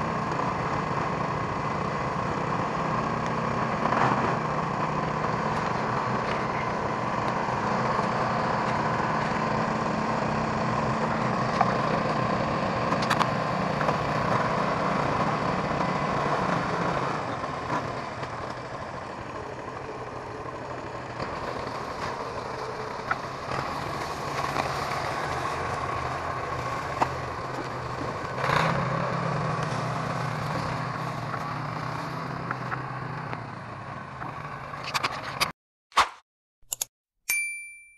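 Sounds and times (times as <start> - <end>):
tractor engine running: 0.0 - 35.5.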